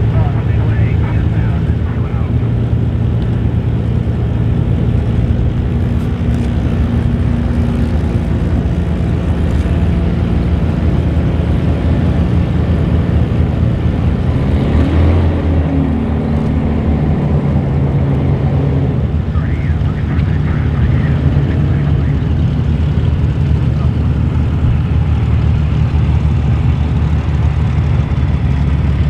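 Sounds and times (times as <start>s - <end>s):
aircraft engine running: 0.0s - 29.0s.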